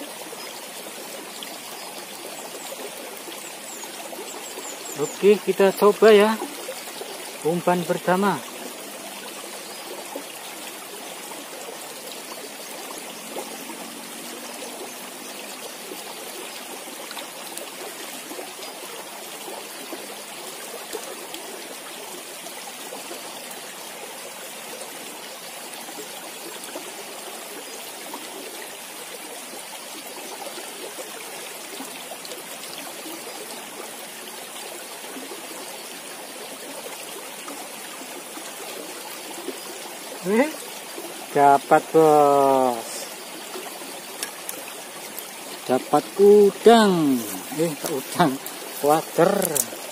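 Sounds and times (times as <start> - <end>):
creek flowing over rocks: 0.0 - 49.9.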